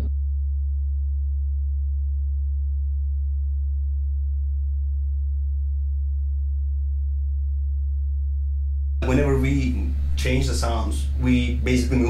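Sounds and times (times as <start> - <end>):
deep sine tone drone: 0.0 - 12.0.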